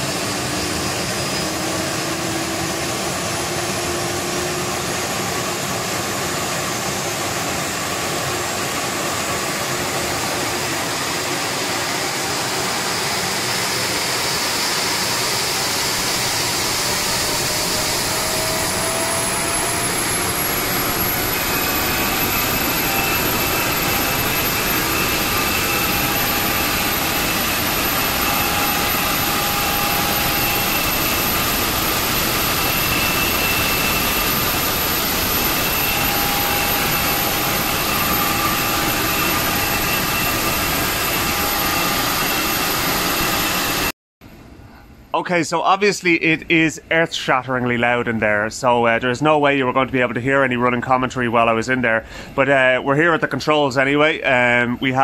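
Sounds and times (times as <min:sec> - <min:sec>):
gas turbine roar with high whine: 0:00.0 - 0:55.0.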